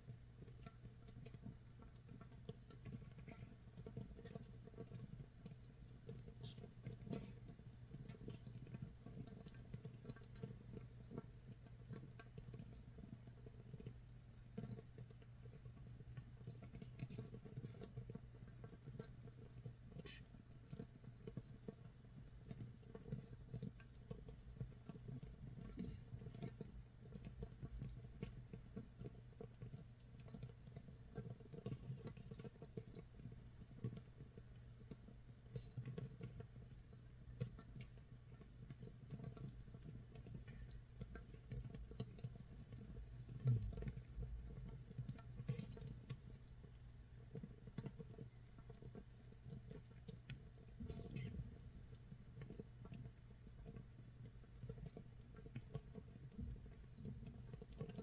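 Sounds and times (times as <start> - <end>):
fermentation bubbles popping: 0.0 - 58.0.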